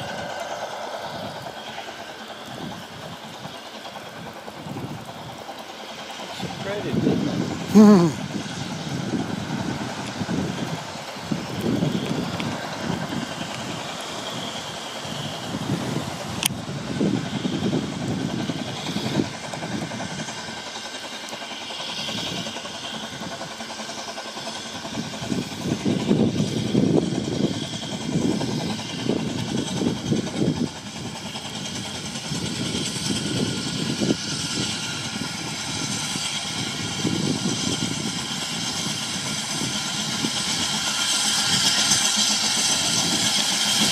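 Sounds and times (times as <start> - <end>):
hiss of wind and rain: 0.0 - 43.9
wind buffeting microphone: 2.3 - 5.6, 6.3 - 20.7, 24.7 - 43.9.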